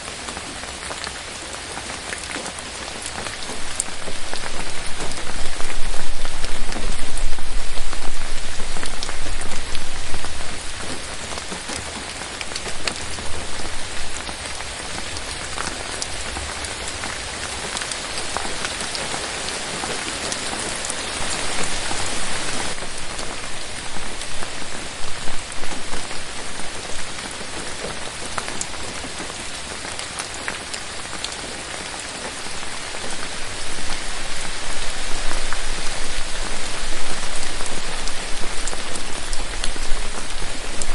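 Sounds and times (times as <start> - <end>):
rain on foliage: 0.0 - 40.9.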